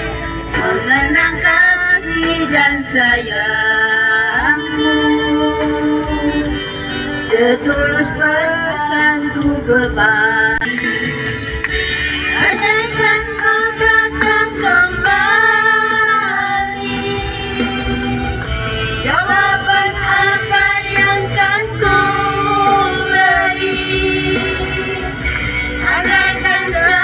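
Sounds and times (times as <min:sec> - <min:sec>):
woman singing pop ballad: 0:00.0 - 0:18.4, 0:19.0 - 0:27.0
backing music: 0:00.0 - 0:27.0.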